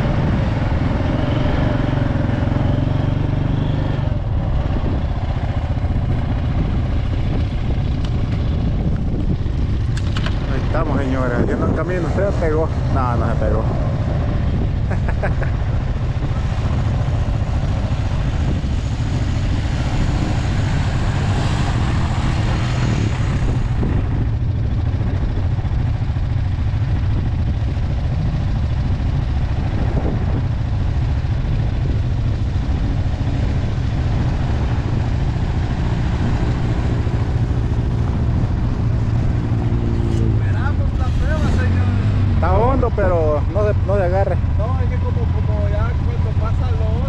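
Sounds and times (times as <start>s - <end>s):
off-road vehicle engines rumbling: 0.0s - 47.0s
vehicle engine approaching: 0.0s - 47.0s.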